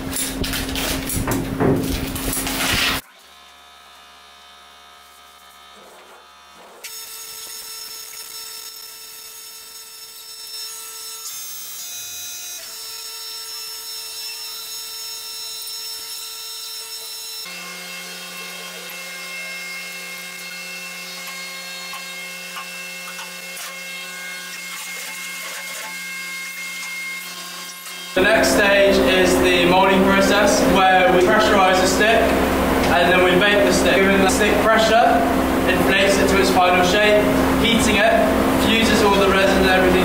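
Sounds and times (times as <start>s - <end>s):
fans and machinery hum: 0.0s - 40.0s.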